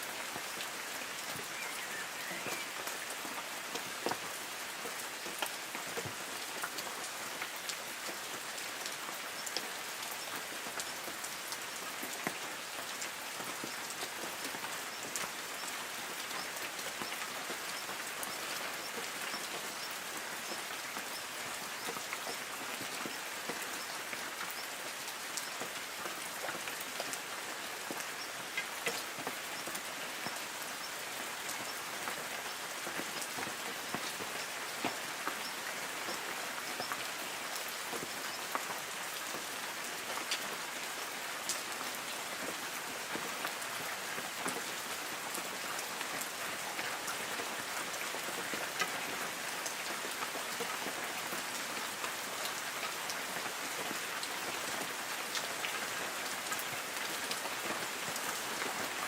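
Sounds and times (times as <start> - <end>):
light rain on trees: 0.0 - 59.0
raindrops ticking on leaves: 0.0 - 59.0.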